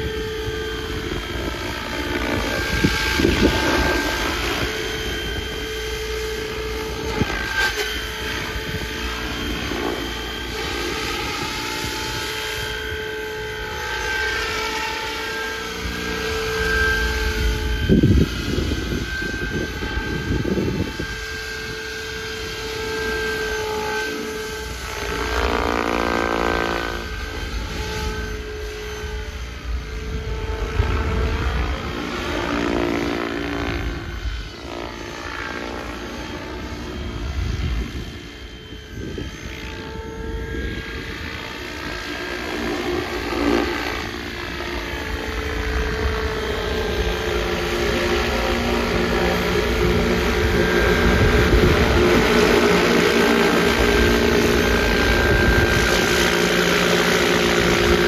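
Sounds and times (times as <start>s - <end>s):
rc helicopter rotors buzzing: 0.0s - 58.0s.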